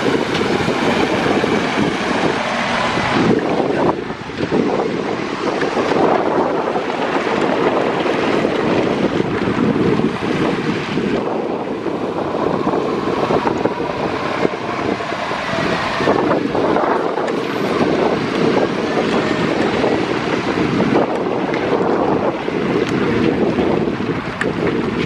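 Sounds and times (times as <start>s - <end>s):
motorway traffic rushing: 0.0s - 25.0s.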